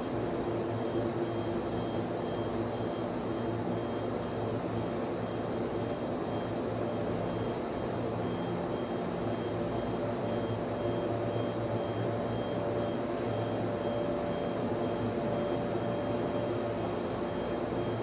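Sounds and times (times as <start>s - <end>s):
cooling fans humming: 0.0s - 18.0s.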